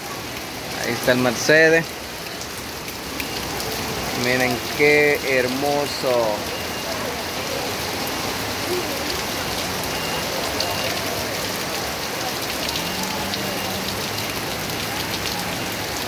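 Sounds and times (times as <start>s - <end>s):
rain falling on street and roofs: 0.0s - 16.0s
raindrop ticks: 0.4s - 7.1s, 7.9s - 16.0s.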